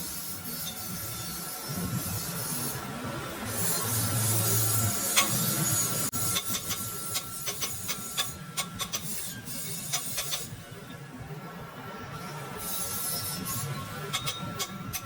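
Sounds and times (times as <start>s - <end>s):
tool hissing and scraping: 0.0s - 10.7s, 12.5s - 15.0s.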